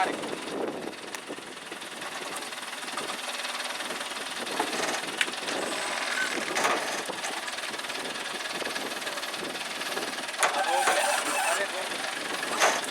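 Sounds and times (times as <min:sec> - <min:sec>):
heavy machinery engine running: 0:00.0 - 0:12.9.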